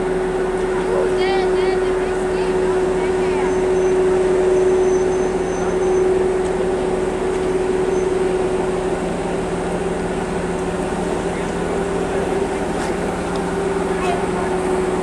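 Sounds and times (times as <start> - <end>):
diesel train idling hum: 0.0 - 15.0.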